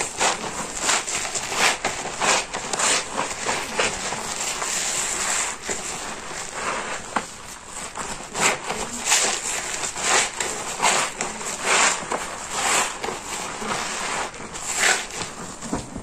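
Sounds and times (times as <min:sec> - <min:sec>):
soapy sponge squelching: 0:00.0 - 0:15.6.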